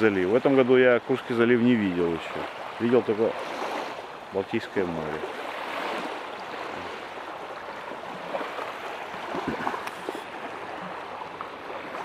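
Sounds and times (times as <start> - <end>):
faint water splashes: 0.0 - 12.0
small waves lapping on sand: 0.0 - 12.0.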